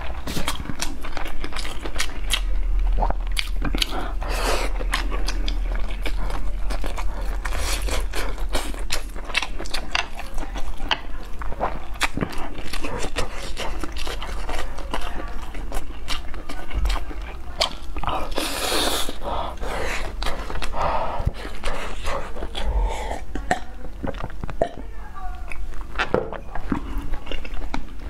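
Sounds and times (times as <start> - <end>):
wet chewing with lip smacks: 0.0 - 24.8, 25.4 - 28.0.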